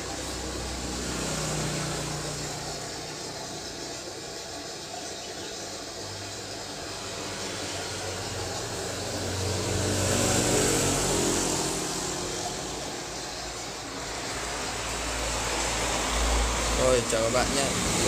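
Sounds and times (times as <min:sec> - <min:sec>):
steady traffic background: 0:00.0 - 0:18.0
vehicle engine and tyres passing: 0:00.0 - 0:18.0.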